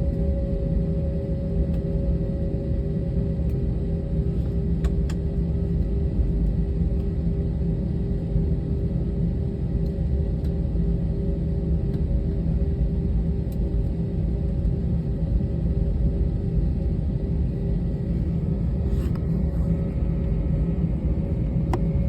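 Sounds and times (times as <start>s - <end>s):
airliner rumble: 0.0s - 22.0s
steady hum: 0.0s - 22.0s.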